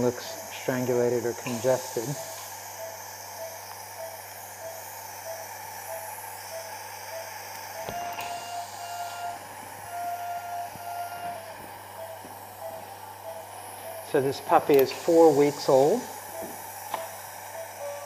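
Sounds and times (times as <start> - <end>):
equipment hiss and hum: 0.0 - 18.0
longer monitor tones: 0.0 - 18.0
patient monitor beeping: 0.0 - 18.0.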